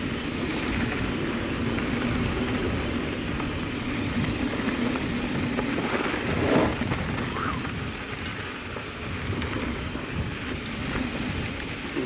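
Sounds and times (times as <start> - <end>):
bike tyres and frame rattling: 0.0 - 12.0
wind on microphone: 0.0 - 12.0.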